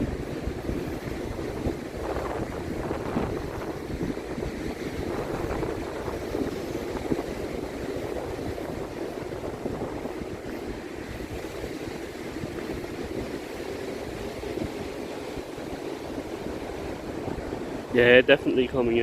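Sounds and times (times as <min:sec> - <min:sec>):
sea rushing on beach: 0:00.0 - 0:19.0
wind buffeting microphone: 0:00.0 - 0:19.0.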